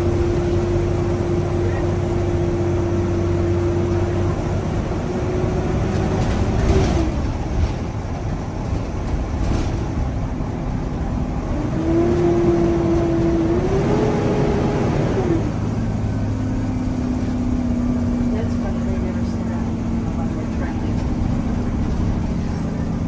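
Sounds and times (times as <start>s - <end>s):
engine and road noise: 0.0s - 23.0s.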